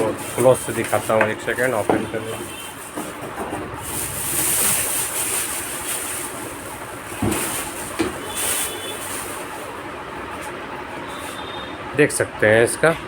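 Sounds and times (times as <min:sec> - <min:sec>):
rustling handling noise: 0:00.0 - 0:11.6.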